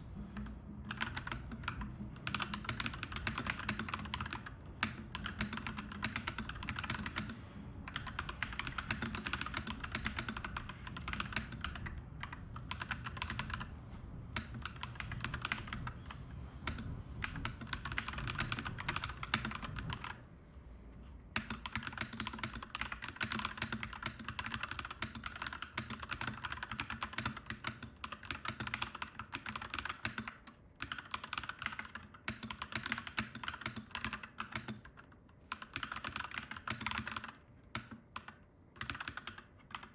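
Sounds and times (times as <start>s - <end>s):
mechanical keyboard typing: 0.4s - 20.2s, 21.3s - 39.9s.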